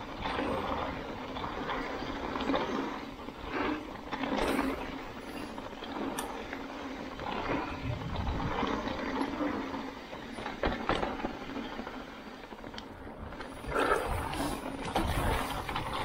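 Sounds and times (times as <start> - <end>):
bike rattling: 0.0 - 16.0
bike tyres on dirt trail: 0.0 - 16.0.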